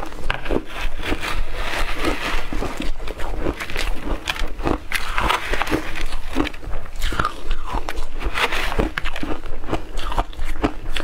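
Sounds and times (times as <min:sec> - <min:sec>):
ice crunching and chewing: 0:00.0 - 0:11.0.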